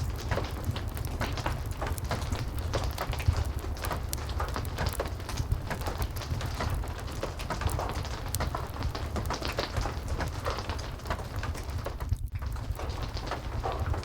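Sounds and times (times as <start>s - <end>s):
fireplace crackling: 0.0s - 14.0s
heavy rain: 0.0s - 14.0s.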